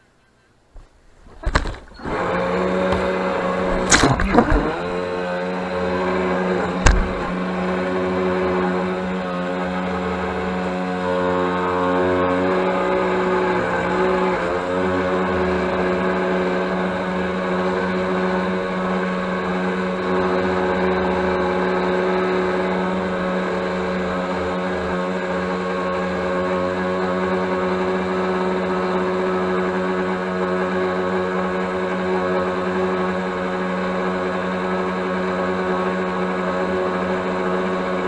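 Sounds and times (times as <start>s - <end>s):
model boat motor drone: 1.6s - 38.0s.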